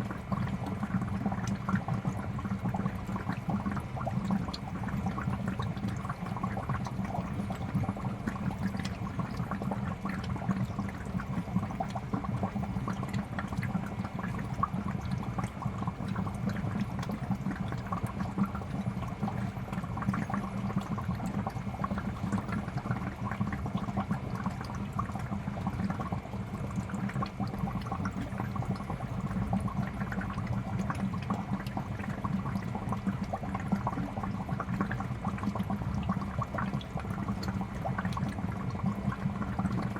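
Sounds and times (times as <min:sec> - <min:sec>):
bubbles popping and gurgling: 0:00.0 - 0:39.9.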